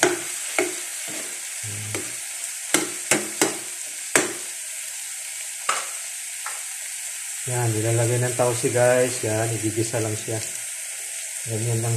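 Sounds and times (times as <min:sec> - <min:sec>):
vegetables sizzling in a frying pan: 0:00.0 - 0:11.9.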